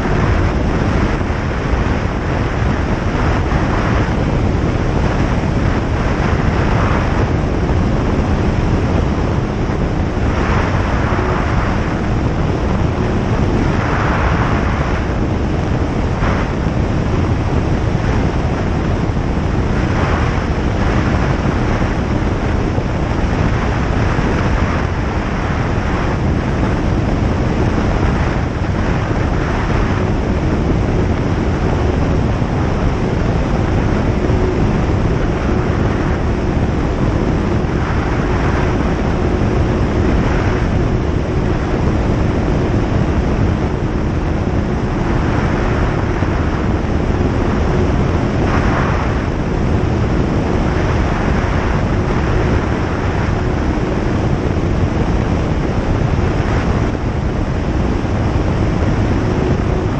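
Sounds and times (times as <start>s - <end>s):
aircraft piston engine drone: 0.0s - 59.9s
faint steady hum: 0.0s - 59.9s
rushing wind noise: 0.0s - 59.9s.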